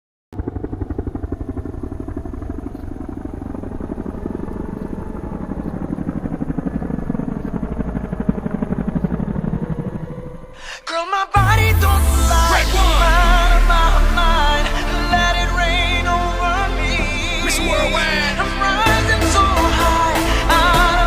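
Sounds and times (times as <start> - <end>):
helicopter rotor chopping: 0.4 - 10.6, 11.4 - 21.0.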